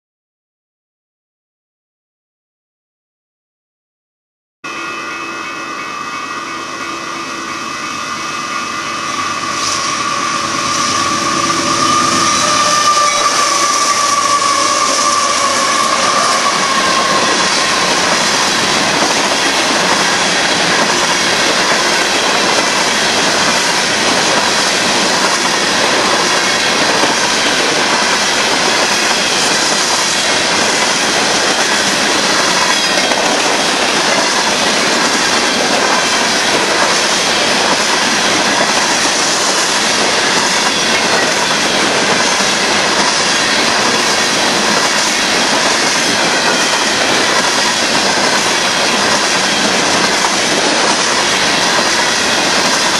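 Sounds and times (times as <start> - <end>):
train rolling past: 4.7 - 52.9
steel wheels rattling on rails: 5.9 - 52.9.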